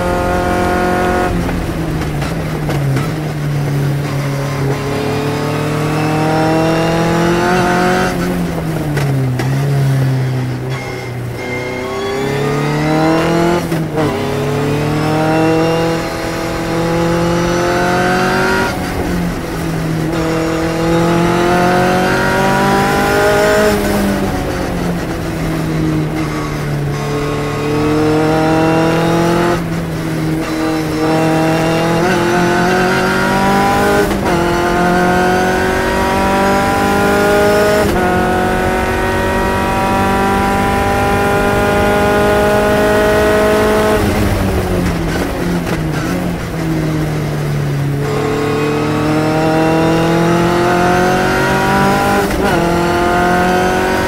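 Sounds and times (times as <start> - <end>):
race car engine shifting gears: 0.0 - 54.0.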